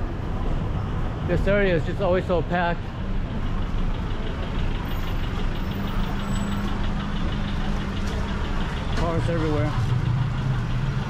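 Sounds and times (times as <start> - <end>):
street traffic: 0.0 - 11.0
vehicle engine idling: 0.0 - 11.0.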